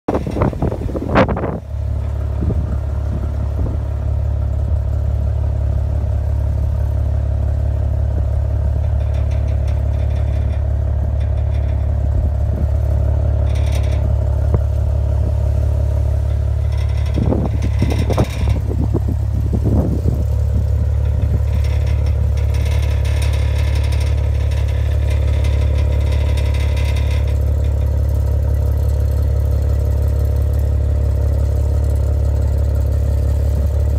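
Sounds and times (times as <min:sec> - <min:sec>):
car engine idling: 0:00.0 - 0:33.9
exhaust pipes clacking and rattling: 0:00.0 - 0:33.9.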